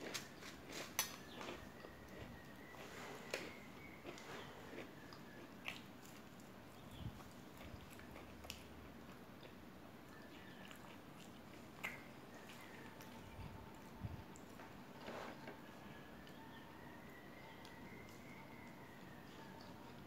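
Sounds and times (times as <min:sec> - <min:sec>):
chewing crispy food: 0:00.0 - 0:20.0.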